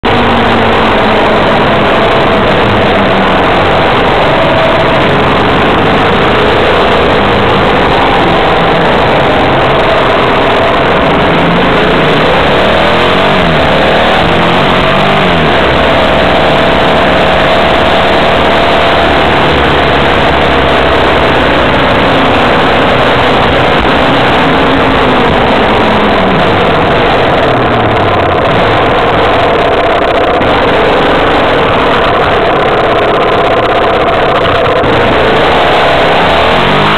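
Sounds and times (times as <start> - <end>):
car engine: 0.0 - 36.9
road noise: 0.0 - 36.9.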